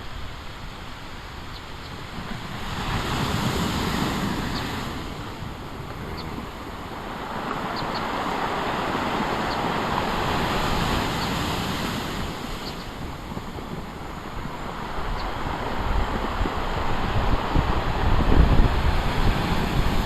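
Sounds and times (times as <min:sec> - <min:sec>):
waves breaking on shore: 0:00.0 - 0:20.0
wind buffeting microphone: 0:00.0 - 0:20.0.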